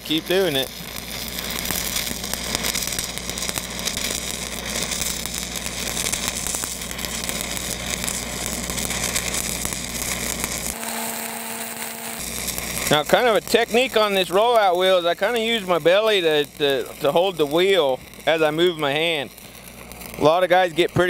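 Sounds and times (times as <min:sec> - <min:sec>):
welding arc crackling sizzle: 0:00.0 - 0:21.0.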